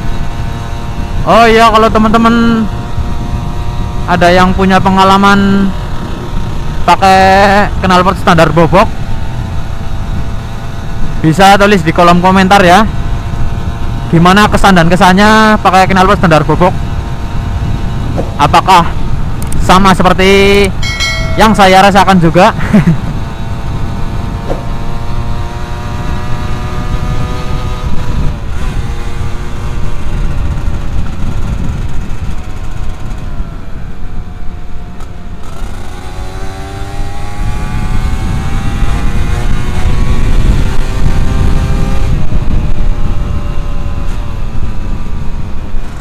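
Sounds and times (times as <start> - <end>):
two-stroke motorcycle engine revving: 0.0 - 46.0
wind rumble on microphone: 0.0 - 46.0.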